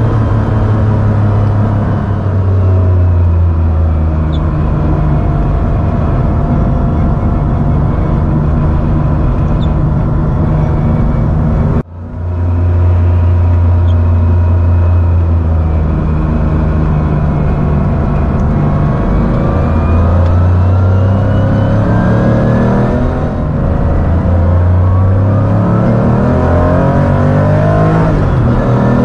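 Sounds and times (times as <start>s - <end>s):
car engine accelerating in cabin: 0.0s - 29.0s.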